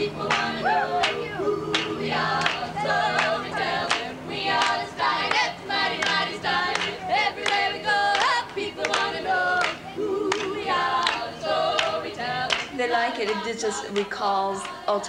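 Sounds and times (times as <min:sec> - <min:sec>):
women singing a cappella: 0:00.0 - 0:15.0
hand claps: 0:00.3 - 0:14.8.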